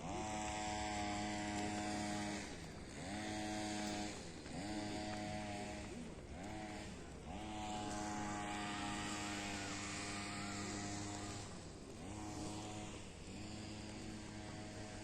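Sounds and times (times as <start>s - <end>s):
small motor revving: 0.0s - 15.0s.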